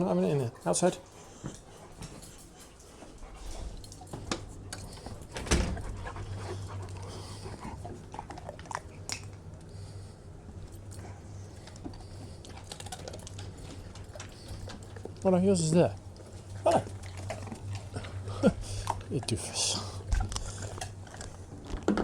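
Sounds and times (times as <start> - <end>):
dogs panting: 0.0 - 21.9
dogs chewing: 0.0 - 22.0
steady low hum: 0.0 - 22.0.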